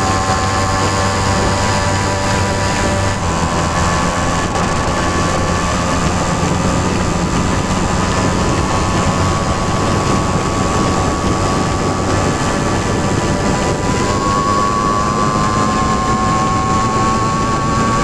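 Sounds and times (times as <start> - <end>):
steady rushing noise: 0.0 - 18.0
two-stroke moped engine running: 0.0 - 18.0.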